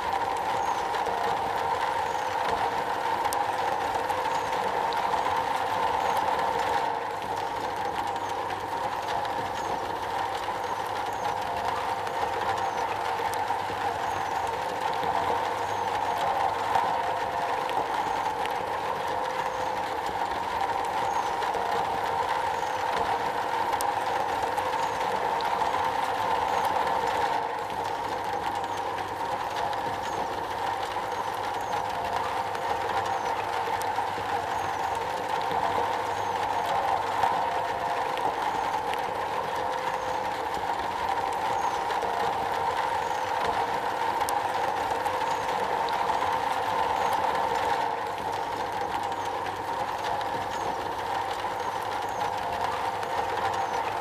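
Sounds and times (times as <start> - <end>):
heavy rain on metal roof: 0.0 - 54.0.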